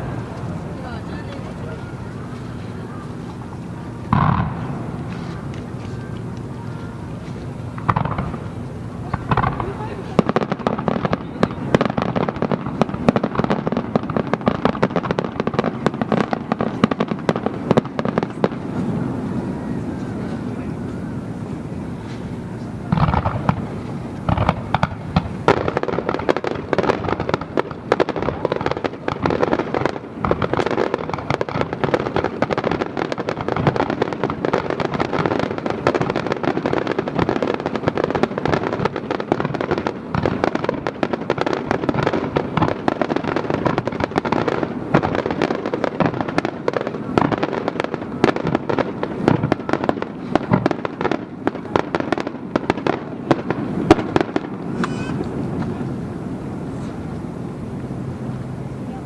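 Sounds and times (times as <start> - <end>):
fireworks crackling and booming: 0.0 - 59.0.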